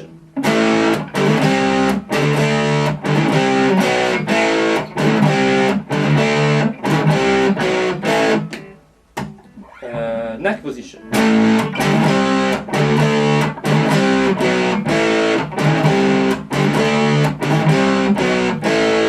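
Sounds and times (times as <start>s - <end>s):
distorted electric guitar strumming: 0.0s - 10.0s, 11.0s - 19.0s.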